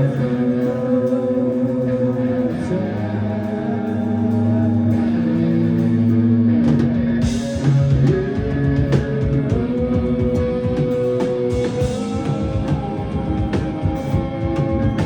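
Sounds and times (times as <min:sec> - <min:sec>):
drum kit: 0:00.0 - 0:15.0
sustained guitar chords: 0:00.0 - 0:15.0.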